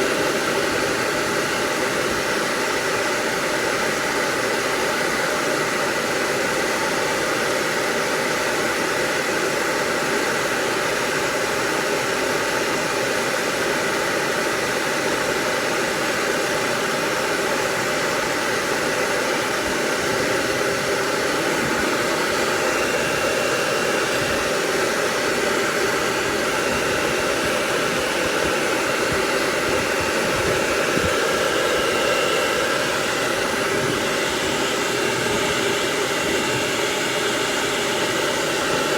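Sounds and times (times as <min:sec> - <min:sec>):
blow dryer running: 0:00.0 - 0:38.9.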